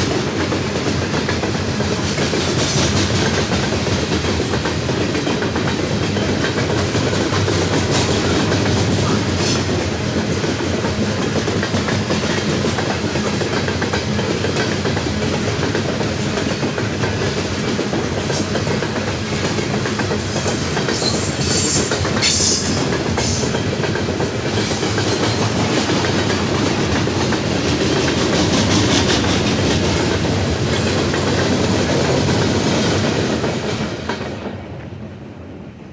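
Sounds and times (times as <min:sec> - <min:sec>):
freight train wheels on rails: 0:00.0 - 0:35.9.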